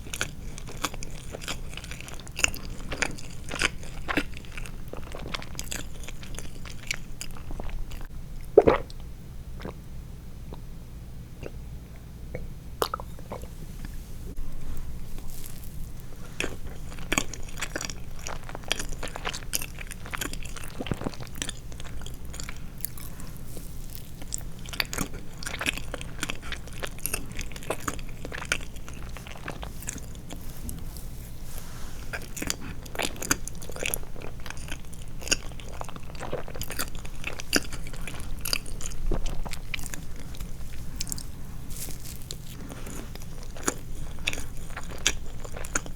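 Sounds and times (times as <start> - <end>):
person chewing sweets: 0.0 - 9.8, 12.3 - 45.9.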